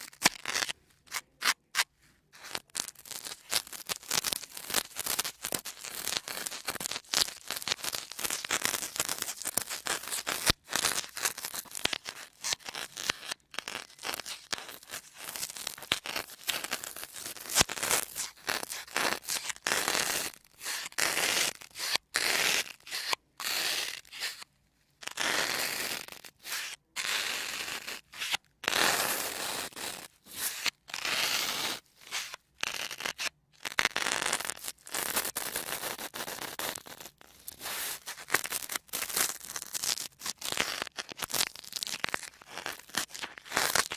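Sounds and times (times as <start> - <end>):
sponges crackling and scrunching: 2.4 - 43.9.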